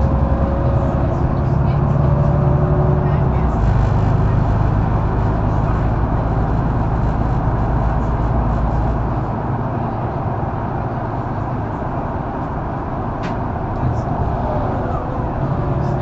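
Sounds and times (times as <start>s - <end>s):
bus diesel engine drone: 0.0s - 16.0s
road and tyre noise: 0.0s - 16.0s.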